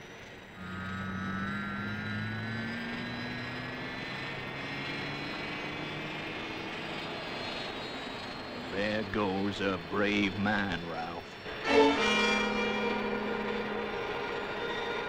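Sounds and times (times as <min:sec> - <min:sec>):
aircraft engines whining: 0:00.0 - 0:15.0
low hum: 0:00.2 - 0:15.0.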